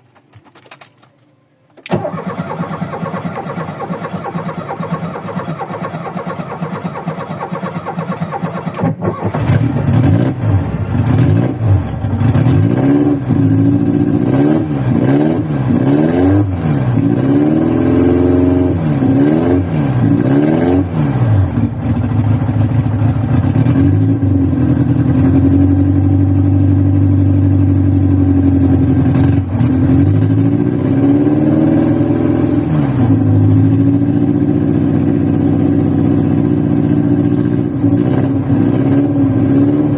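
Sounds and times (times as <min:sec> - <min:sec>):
car engine running rough: 0:01.9 - 0:39.9.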